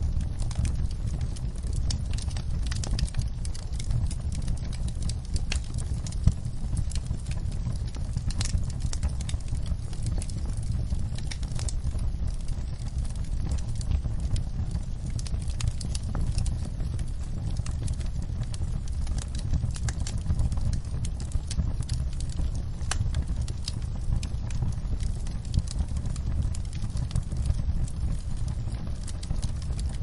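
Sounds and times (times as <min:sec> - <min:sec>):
fire crackles and pops: 0:00.0 - 0:30.0
wood fire flames rumbling: 0:00.0 - 0:30.0.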